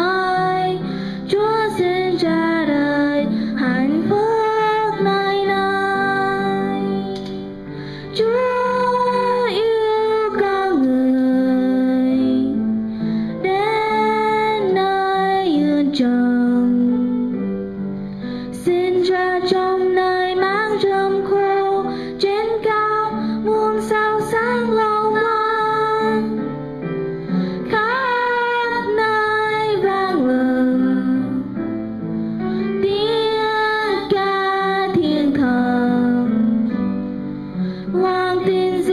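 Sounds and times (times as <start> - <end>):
woman singing: 0.0 - 12.7, 13.3 - 17.4, 18.5 - 26.6, 27.6 - 31.7, 32.6 - 37.0, 37.8 - 38.9.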